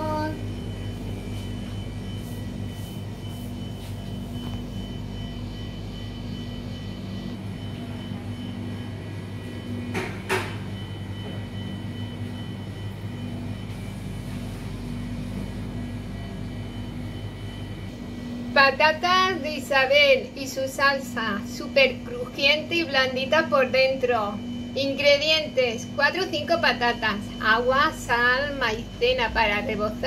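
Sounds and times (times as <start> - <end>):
kitchen appliances humming: 0.0 - 30.0.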